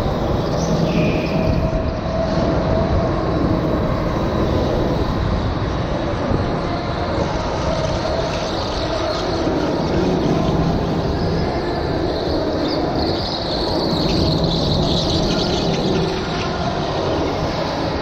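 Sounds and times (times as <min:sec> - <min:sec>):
rumble and vibration noise: 0:00.0 - 0:18.0
go-kart engine running: 0:03.1 - 0:18.0.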